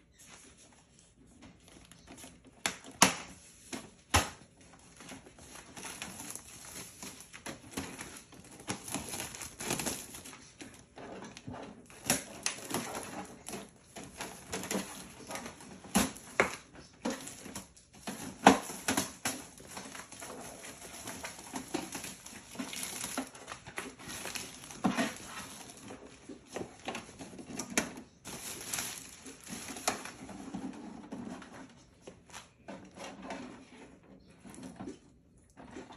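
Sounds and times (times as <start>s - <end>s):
plastic bag crinkling: 0.2s - 31.2s.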